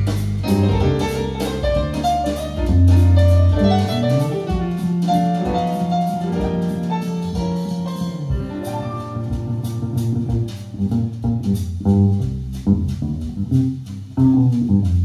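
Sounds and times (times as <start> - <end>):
jazz piano over loudspeakers: 0.0 - 15.0
low bass notes: 0.0 - 15.0.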